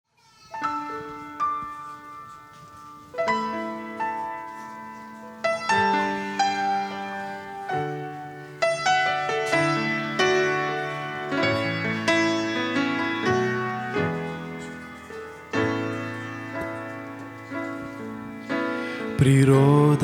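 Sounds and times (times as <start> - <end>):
slow piano chords: 0.6 - 20.0.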